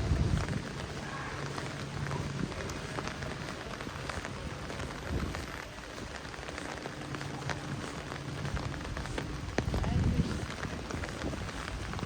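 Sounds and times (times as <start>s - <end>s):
heavy rain hissing: 0.0s - 12.0s
sharp ticks of raindrops: 0.0s - 12.0s.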